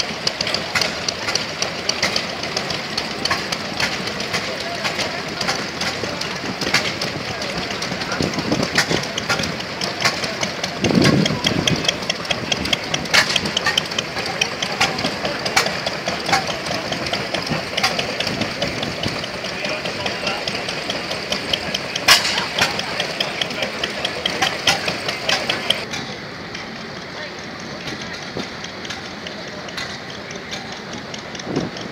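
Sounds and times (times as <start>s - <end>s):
stationary engines clattering: 0.0s - 31.9s.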